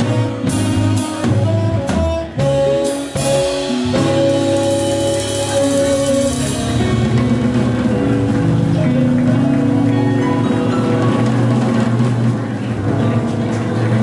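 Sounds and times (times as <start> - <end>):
drum kit: 0.0 - 14.0
electric guitars: 0.0 - 14.0.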